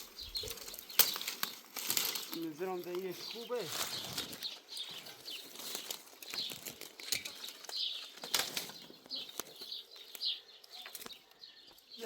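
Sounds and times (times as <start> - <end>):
rustling: 0.0 - 11.4.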